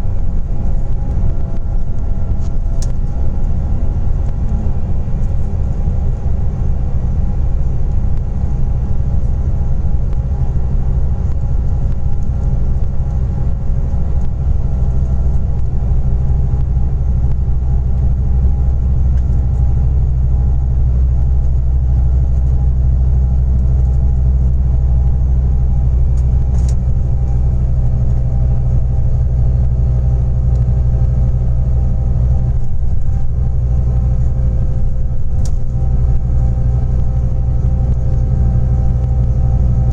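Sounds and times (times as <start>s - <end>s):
coach engine running: 0.0s - 39.9s.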